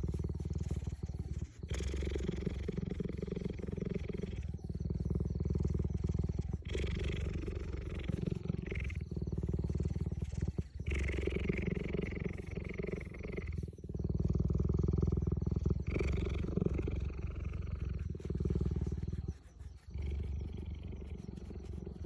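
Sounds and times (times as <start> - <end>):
cheetah purring: 0.0 - 22.0.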